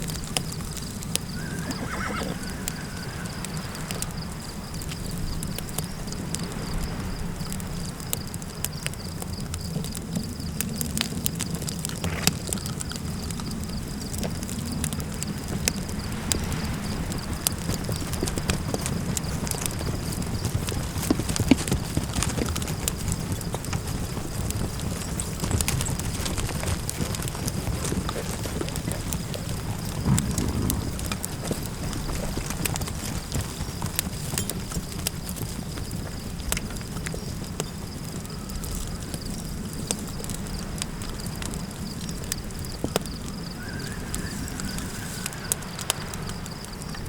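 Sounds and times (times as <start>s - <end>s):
campfire crackling and popping: 0.0s - 47.0s
low rumble of wind: 0.0s - 47.0s.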